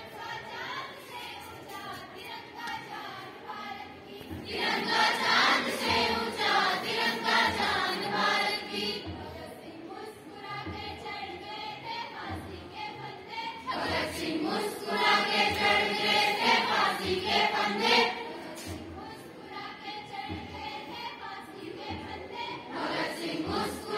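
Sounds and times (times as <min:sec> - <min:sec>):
choir singing to music: 0:00.0 - 0:23.9.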